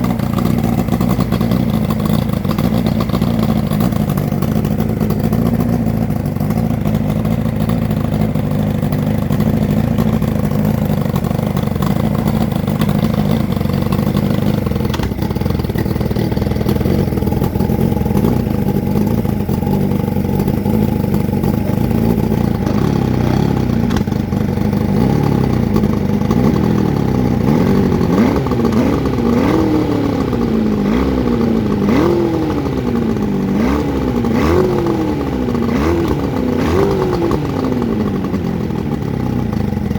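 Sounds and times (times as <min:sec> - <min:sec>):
outboard motor revving: 0:00.0 - 0:39.9.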